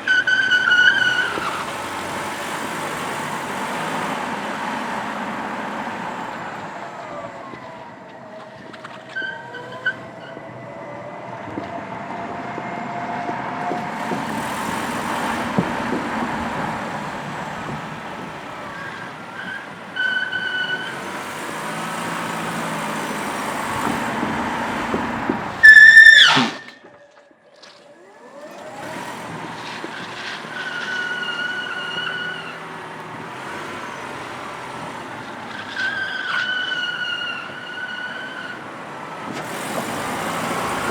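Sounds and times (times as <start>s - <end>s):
tyres squealing on concrete: 0.0s - 6.6s, 9.0s - 10.6s, 13.7s - 27.2s, 28.6s - 40.9s
tyres rolling: 0.0s - 7.7s, 11.7s - 27.0s, 28.4s - 40.9s.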